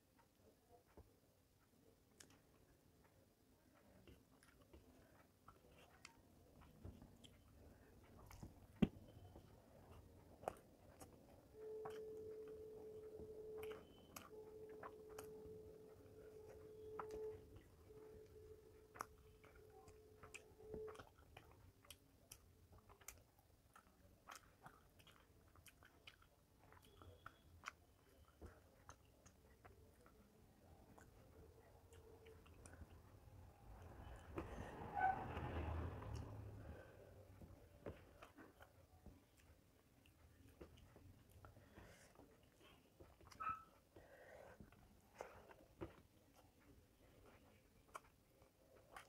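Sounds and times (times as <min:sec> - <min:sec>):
person chewing: 0:00.1 - 0:49.0.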